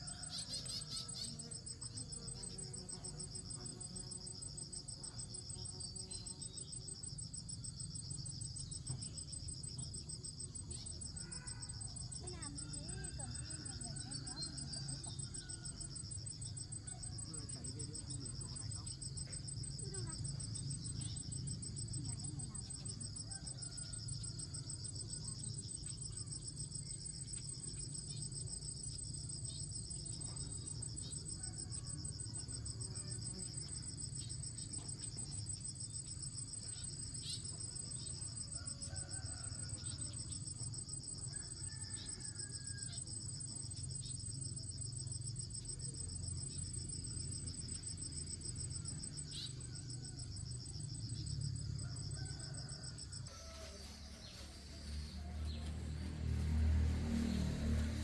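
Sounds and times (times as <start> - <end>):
high insect whine: 0.0 - 58.0
insects trilling: 0.0 - 58.0.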